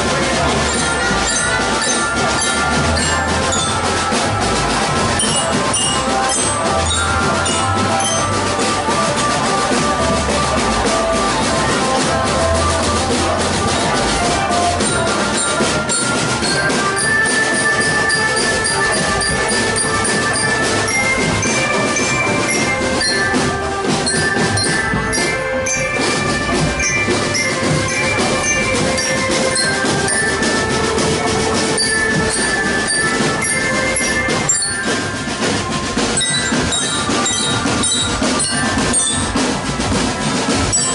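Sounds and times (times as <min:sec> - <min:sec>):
band melody instruments: 0:00.0 - 0:40.9
snare and bass drums beating: 0:00.0 - 0:40.9.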